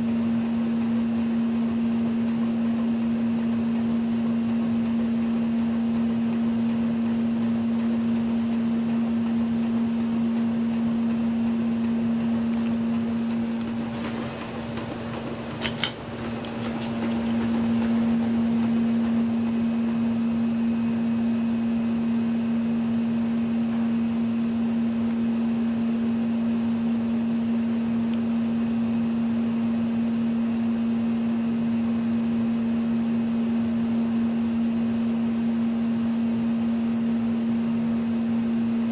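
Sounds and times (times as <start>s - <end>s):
ceiling fan motor hum: 0.0s - 38.9s.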